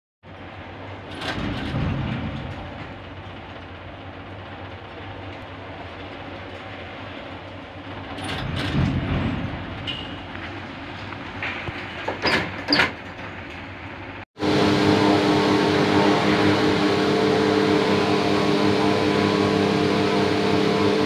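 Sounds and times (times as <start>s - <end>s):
industrial rumble and hiss: 0.2s - 21.0s.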